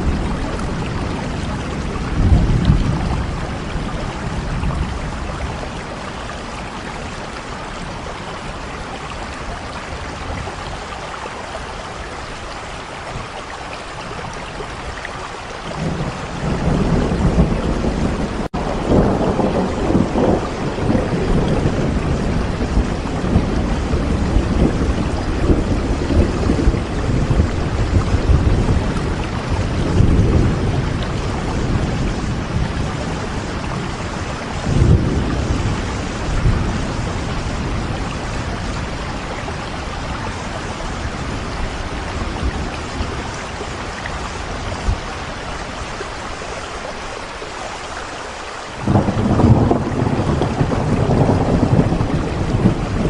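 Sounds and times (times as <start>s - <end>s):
distant thunder rumbling: 0.0s - 14.1s, 15.7s - 46.0s, 48.8s - 53.0s
steady rain: 0.0s - 53.0s.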